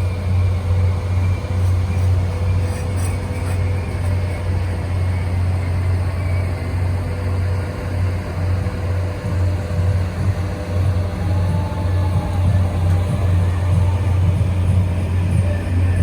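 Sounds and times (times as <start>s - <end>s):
train rumbling by: 0.0s - 16.0s.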